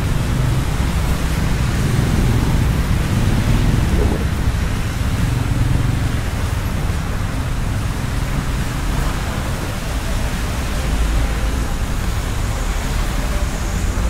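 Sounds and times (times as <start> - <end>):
heavy rain hissing: 0.0 - 14.0
motorcycles and traffic rumbling: 0.0 - 14.0.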